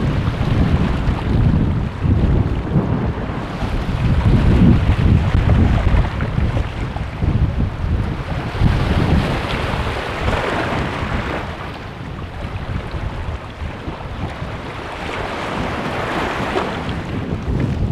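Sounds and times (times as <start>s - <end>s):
surf on a stony shore: 0.0s - 17.9s
wind buffeting microphone: 0.0s - 17.9s.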